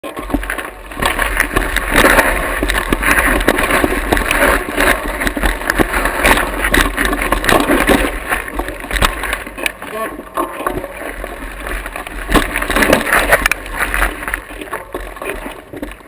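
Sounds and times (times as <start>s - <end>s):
small knocks and clatter: 0.0s - 16.0s
footsteps crunching on rocky trail: 0.1s - 16.0s.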